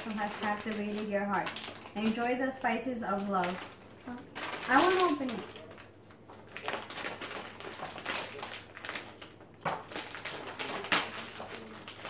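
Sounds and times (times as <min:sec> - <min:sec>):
plastic bag ripping: 0:00.0 - 0:12.0
plastic chip bag crinkling: 0:00.0 - 0:12.0.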